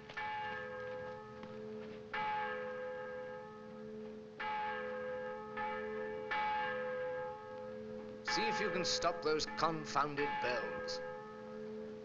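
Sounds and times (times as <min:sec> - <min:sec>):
church bells tolling: 0:00.0 - 0:12.0.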